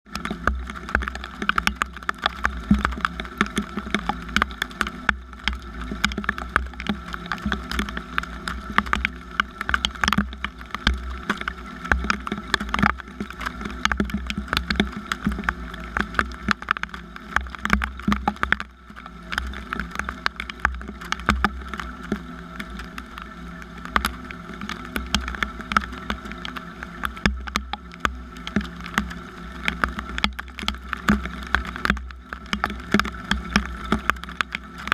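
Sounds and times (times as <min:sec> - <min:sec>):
raindrops tapping on a surface: 0:00.1 - 0:34.9.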